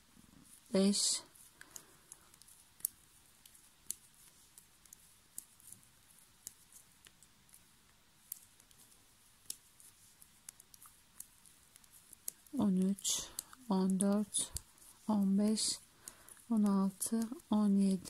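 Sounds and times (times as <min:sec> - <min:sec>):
metal knitting needles clicking: 0:00.9 - 0:18.0.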